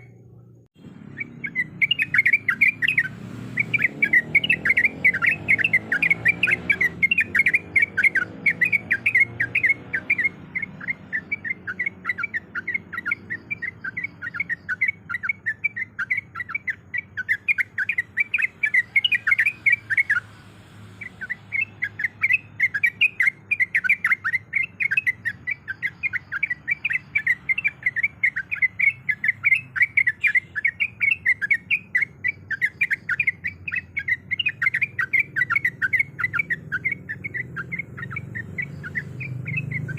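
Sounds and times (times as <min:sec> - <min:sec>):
bird sharp chirps: 0:00.0 - 0:39.9.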